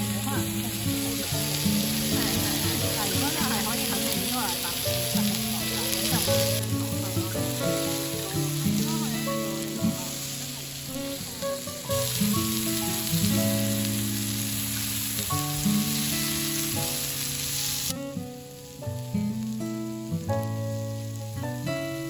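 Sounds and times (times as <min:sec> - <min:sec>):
background music with held notes: 0:00.0 - 0:22.0
food sizzling in a pan: 0:00.0 - 0:22.0.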